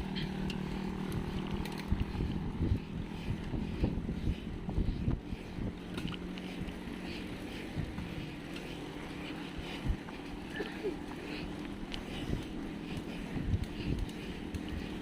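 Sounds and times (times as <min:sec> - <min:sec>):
road traffic hum: 0:00.0 - 0:15.0
wind buffeting microphone: 0:00.0 - 0:15.0.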